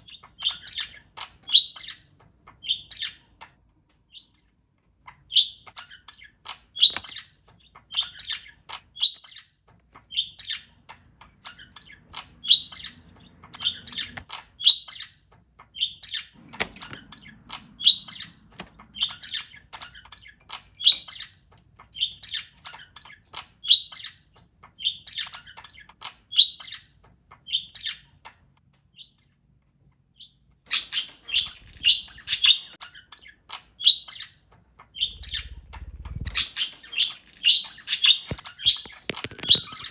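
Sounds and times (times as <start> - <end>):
parakeet chirping: 0.0 - 29.4, 30.1 - 39.9.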